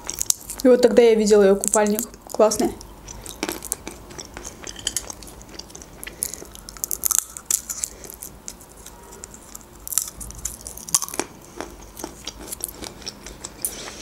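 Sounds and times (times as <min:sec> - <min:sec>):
chewing and crunching nuts: 0:00.0 - 0:00.8, 0:01.6 - 0:14.0.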